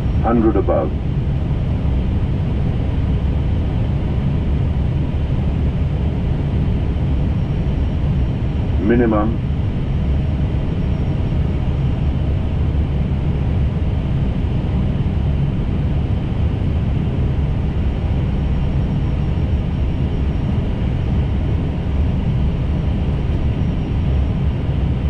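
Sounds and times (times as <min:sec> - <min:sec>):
low rumble of airflow and engines: 0:00.0 - 0:25.0.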